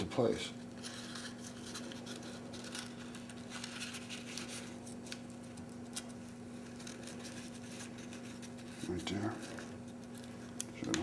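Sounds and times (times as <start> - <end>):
steady low hum: 0.0 - 11.0
fingers rustling string: 0.8 - 11.0.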